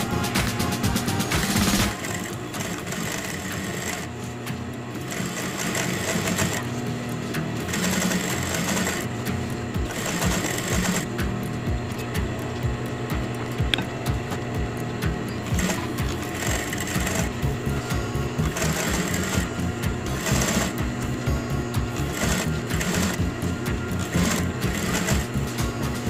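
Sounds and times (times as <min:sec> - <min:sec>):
sewing machine stitching: 0:00.0 - 0:11.3, 0:15.4 - 0:26.0.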